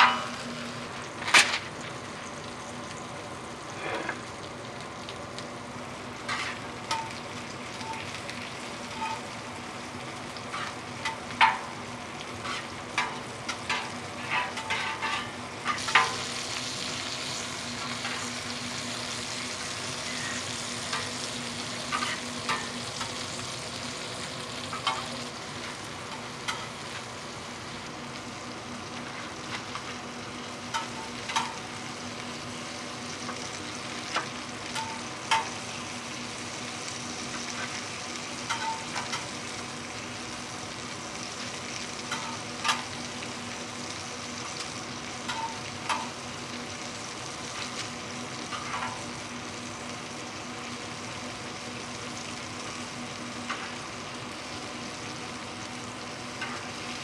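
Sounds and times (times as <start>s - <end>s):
pancakes sizzling in oil: 0.0s - 57.0s.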